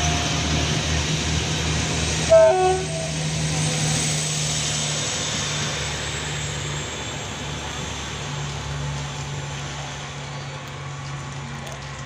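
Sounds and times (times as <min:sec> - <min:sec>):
diesel engine humming: 0:00.0 - 0:12.0
train wheel and rail noise: 0:00.0 - 0:12.0.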